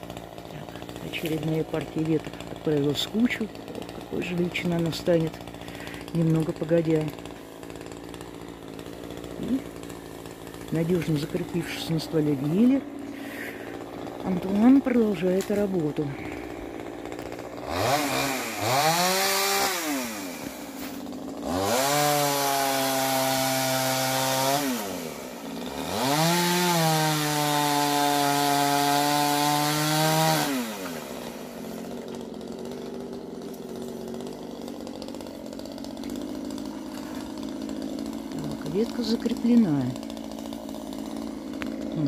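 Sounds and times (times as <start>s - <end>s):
chainsaw revving and idling: 0.0s - 42.0s.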